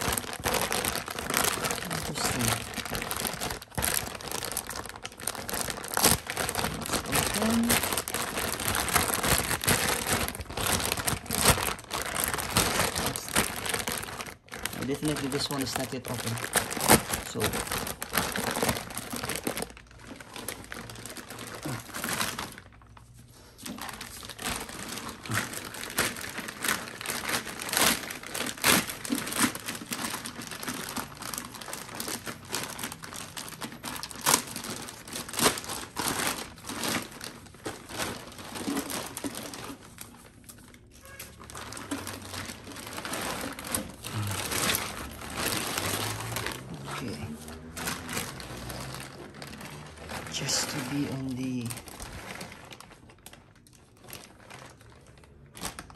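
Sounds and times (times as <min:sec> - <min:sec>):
plastic bags crinkling: 0:00.0 - 0:55.9.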